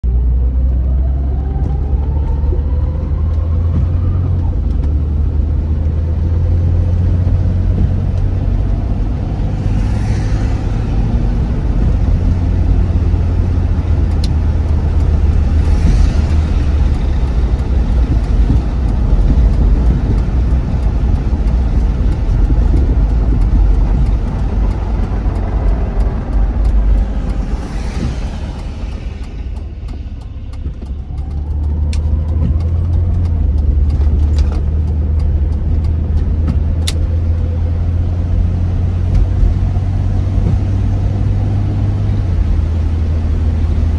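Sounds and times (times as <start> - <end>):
engine and tyre rumble: 0.0 - 43.9
faint engine whine: 0.1 - 43.9.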